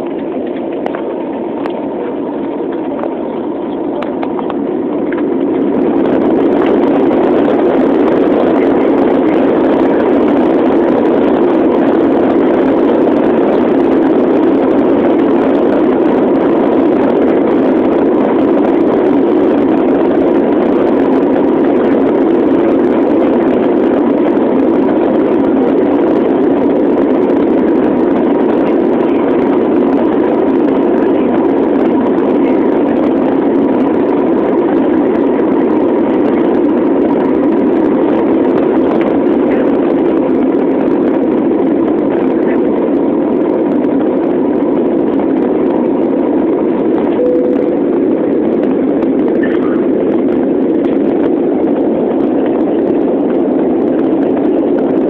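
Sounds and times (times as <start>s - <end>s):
faint engine whine: 0.0s - 55.0s
jet engines roaring in cabin: 0.0s - 55.0s.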